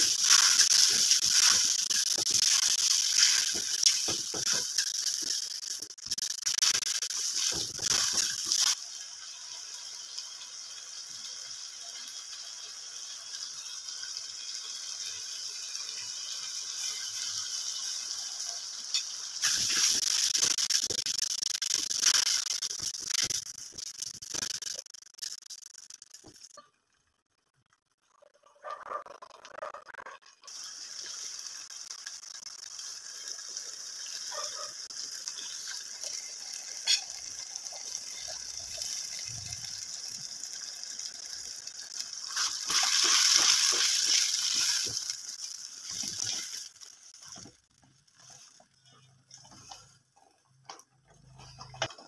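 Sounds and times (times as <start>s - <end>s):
masala sizzling in oil: 0.0s - 26.6s, 30.2s - 52.0s.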